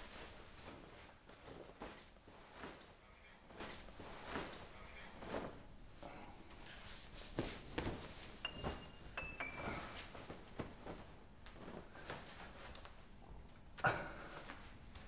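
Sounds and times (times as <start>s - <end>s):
t-shirt rustling: 0.0s - 13.1s.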